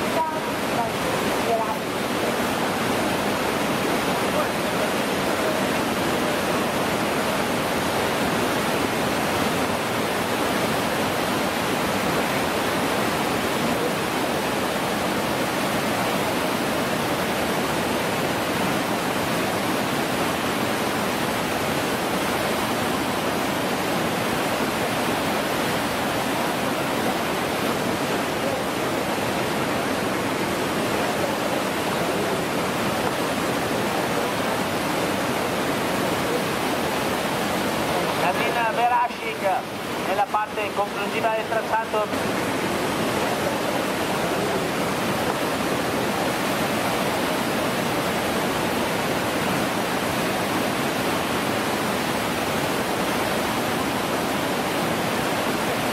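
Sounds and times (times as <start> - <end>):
whitewater rapids rushing: 0.0 - 55.9.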